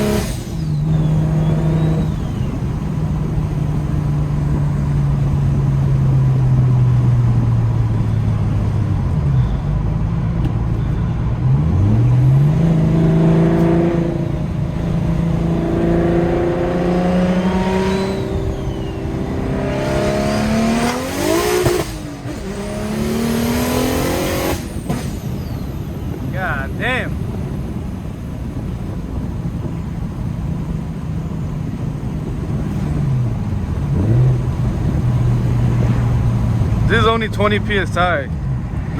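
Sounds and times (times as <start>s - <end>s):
car engine accelerating through gears: 0.0s - 26.4s, 27.0s - 38.9s.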